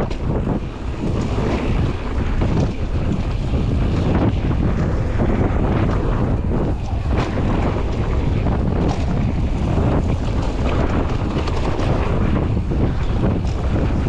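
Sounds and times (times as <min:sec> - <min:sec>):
bike rattling: 0:00.0 - 0:14.0
bike tyre rumble on gravel: 0:00.0 - 0:14.0
wind buffeting microphone: 0:00.0 - 0:14.0.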